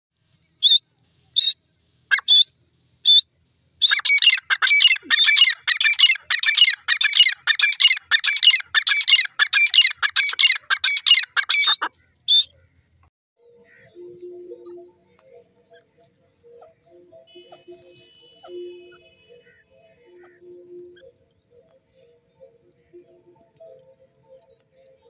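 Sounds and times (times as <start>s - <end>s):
bird calling repeated notes: 1.4s - 3.2s, 3.8s - 12.6s, 13.6s - 24.5s.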